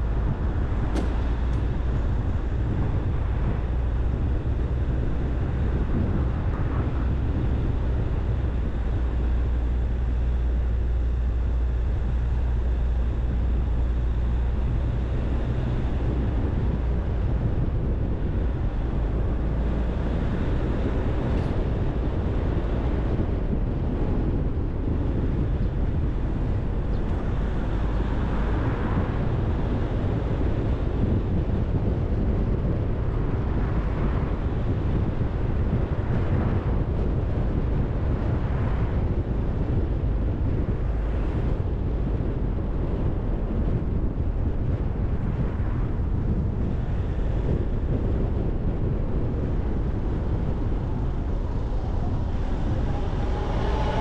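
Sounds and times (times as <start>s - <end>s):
car engine and road noise: 0.0s - 54.0s
wind on microphone: 0.0s - 54.0s.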